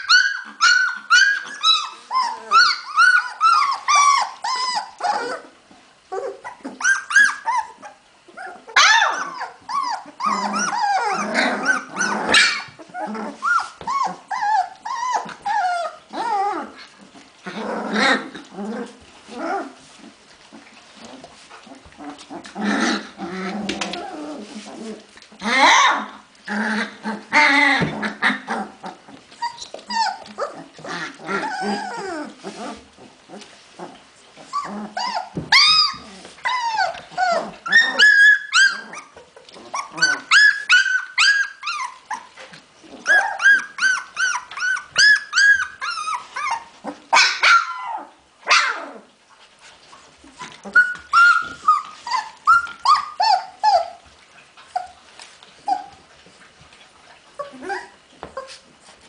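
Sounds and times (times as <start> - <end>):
puppies whining and squealing: 0.0 - 59.0.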